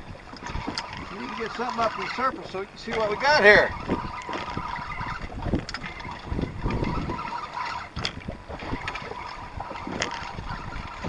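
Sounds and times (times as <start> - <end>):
water splashing against hull: 0.0 - 11.0
wind buffeting microphone: 0.0 - 11.0.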